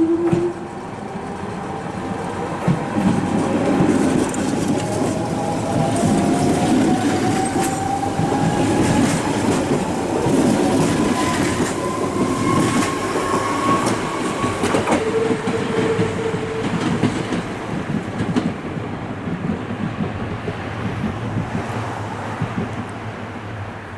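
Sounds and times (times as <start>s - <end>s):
wheels clattering on rail joints: 0.0s - 23.2s.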